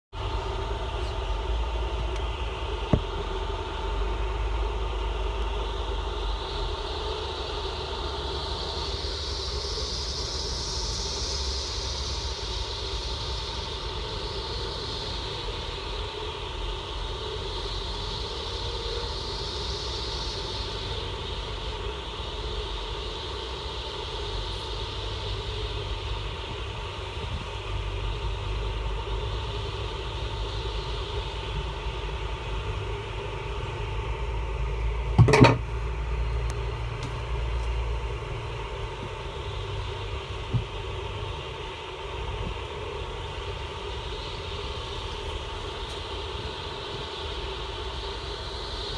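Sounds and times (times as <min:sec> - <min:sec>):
faint steady tone: 0:00.2 - 0:48.9.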